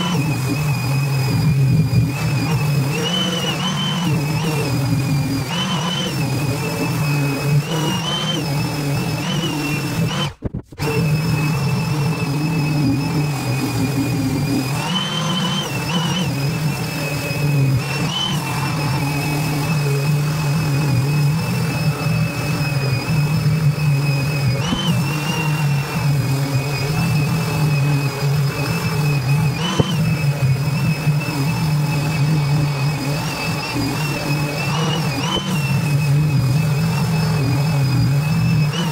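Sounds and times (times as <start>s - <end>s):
orbital sander whining: 0.0s - 38.9s.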